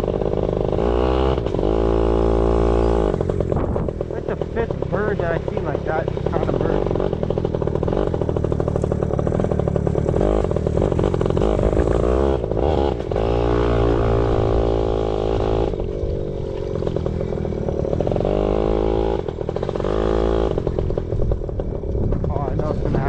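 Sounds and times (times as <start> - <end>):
small two-stroke engine revving: 0.0 - 23.0.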